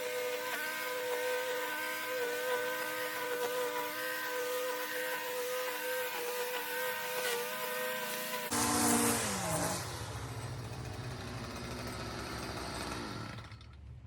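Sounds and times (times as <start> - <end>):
string trimmer engine whining: 0.0 - 13.8.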